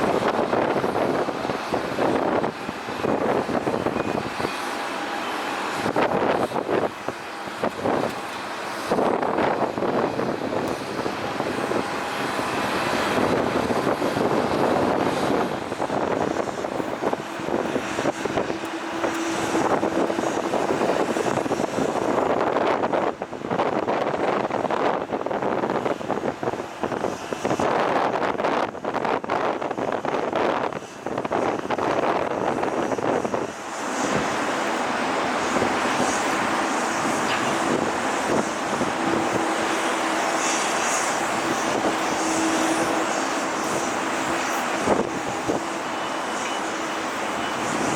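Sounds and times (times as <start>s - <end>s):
jet engines roaring: 0.0s - 47.9s.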